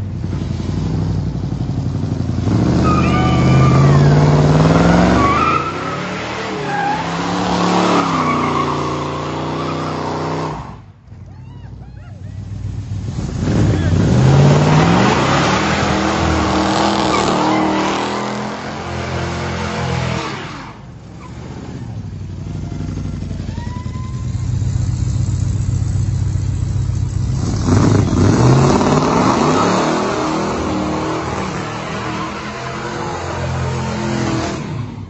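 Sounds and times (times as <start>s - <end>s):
car engine rumbling and revving: 0.0s - 11.3s, 12.3s - 35.0s.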